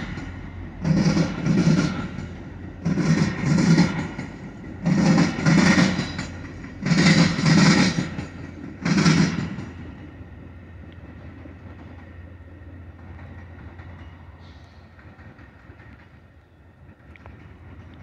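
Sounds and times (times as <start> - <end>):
train rumbling: 0.0 - 18.0
train wheels clattering over rail joints: 0.0 - 18.0.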